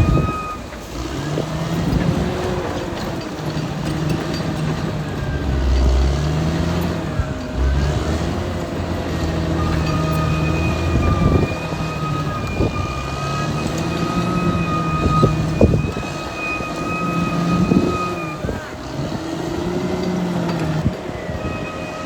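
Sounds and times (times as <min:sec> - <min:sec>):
bulldozer diesel engine droning: 0:00.0 - 0:22.0.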